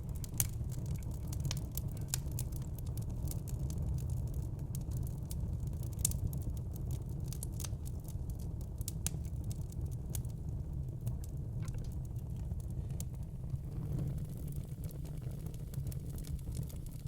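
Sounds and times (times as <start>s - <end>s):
low rumble of flames: 0.0s - 17.0s
sharp snaps and pops: 0.0s - 17.0s
wood fire crackling: 0.0s - 17.0s.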